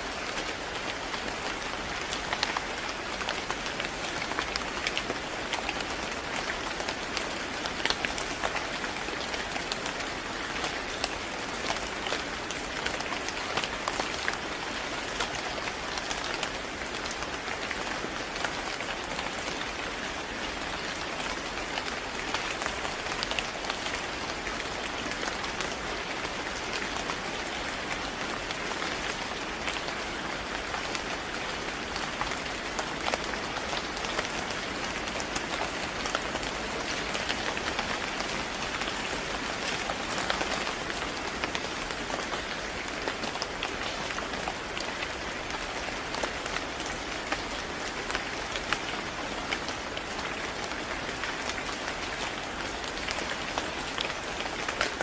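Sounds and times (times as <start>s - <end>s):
rain on a hard surface: 0.0s - 55.0s.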